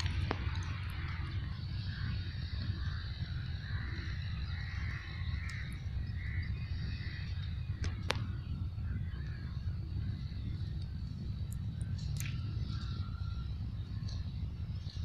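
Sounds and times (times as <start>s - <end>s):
faint birds calling: 0.0s - 15.0s
low rumble: 0.0s - 15.0s.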